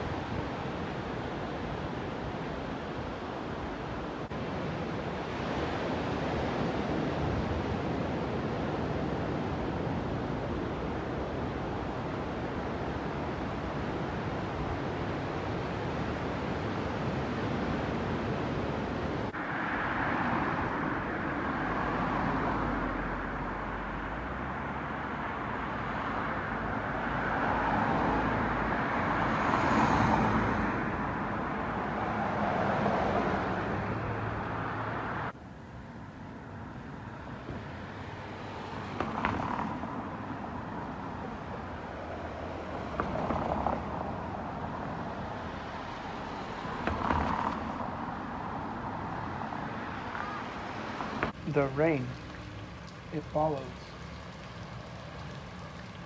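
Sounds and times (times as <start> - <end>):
cars passing: 0.0 - 56.0
street traffic: 0.0 - 56.0
wind: 0.0 - 56.0.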